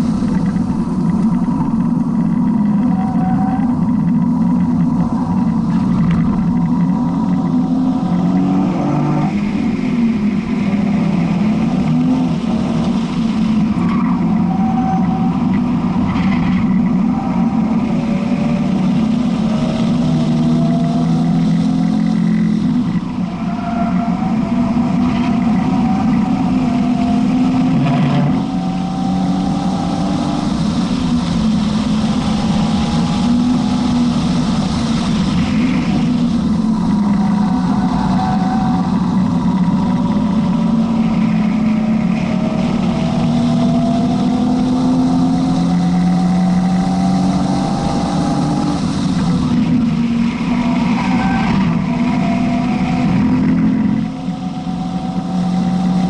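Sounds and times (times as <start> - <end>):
car engine revving in cabin: 0.0 - 56.0.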